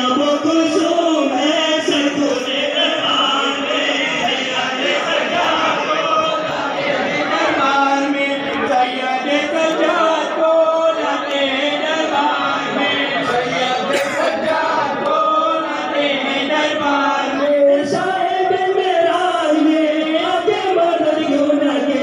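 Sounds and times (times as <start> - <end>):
men chanting a lament: 0.0 - 22.0
reciters singing into microphones: 0.0 - 22.0.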